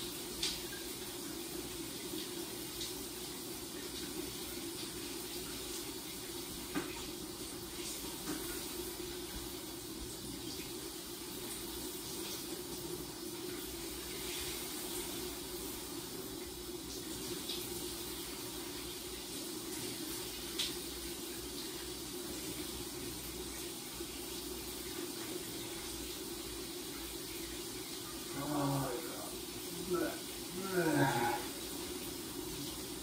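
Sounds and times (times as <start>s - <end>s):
shower water spraying: 0.0s - 33.0s.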